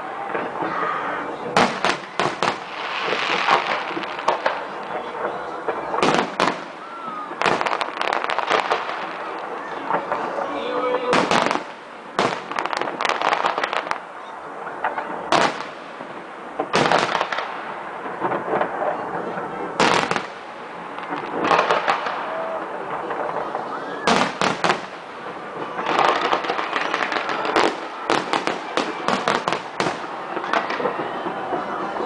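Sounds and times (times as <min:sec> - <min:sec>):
firework crackling: 0:00.0 - 0:32.0.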